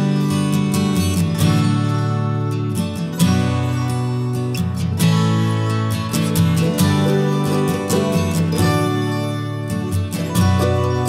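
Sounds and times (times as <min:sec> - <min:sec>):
instrumental music sustained chords: 0:01.2 - 0:11.0.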